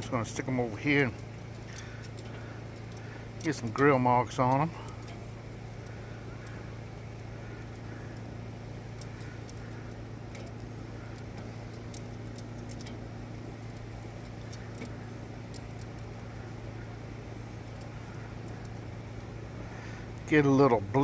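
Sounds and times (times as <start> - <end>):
electric fan humming: 0.0 - 21.0
sausages sizzling on a grill: 0.0 - 21.0.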